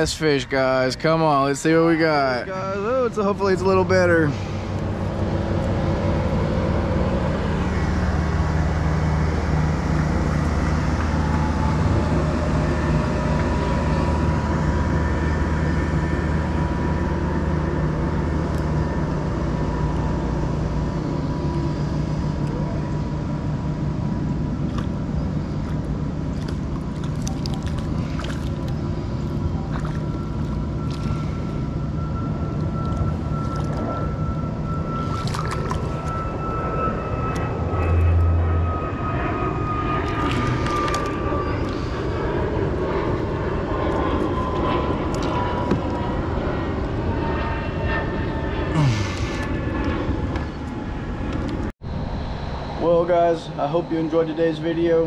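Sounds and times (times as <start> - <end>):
engine running with low hum: 0.0 - 55.0
thin steady whine: 0.0 - 55.0.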